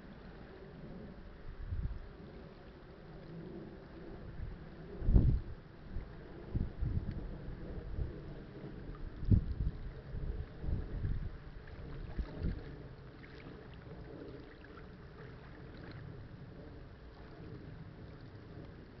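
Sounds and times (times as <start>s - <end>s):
wind buffeting microphone: 0.8s - 19.0s.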